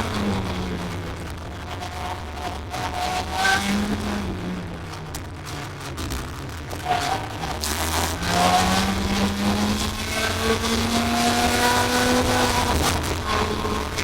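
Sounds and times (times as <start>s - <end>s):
kart engine revving: 0.0s - 14.0s.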